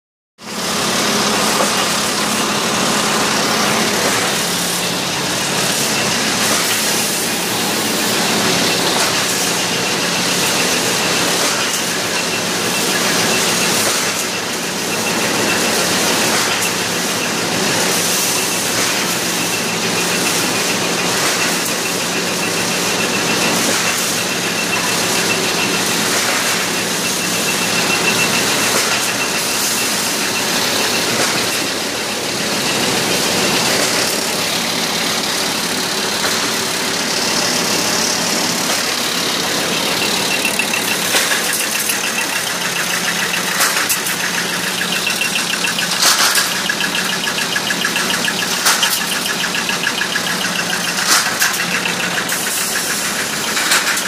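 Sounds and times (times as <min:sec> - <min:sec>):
factory machinery din: 0:00.4 - 0:54.0.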